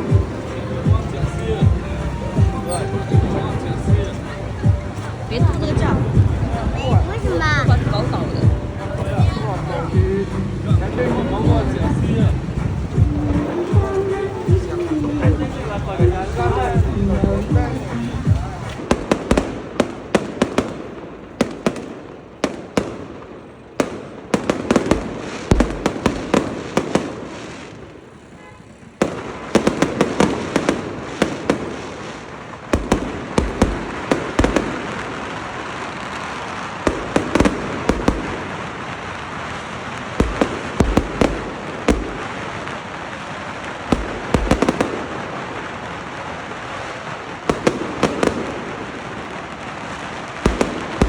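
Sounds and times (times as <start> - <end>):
fireworks cracking and banging: 0.0 - 51.0.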